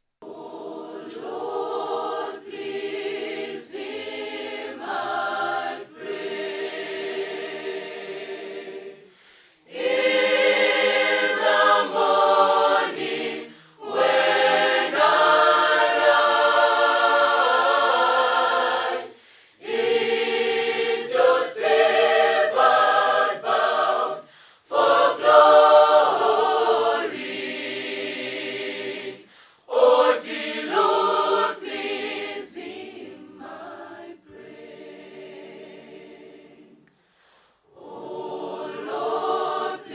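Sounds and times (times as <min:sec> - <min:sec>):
choir singing: 0:00.2 - 0:37.0, 0:37.6 - 0:39.9.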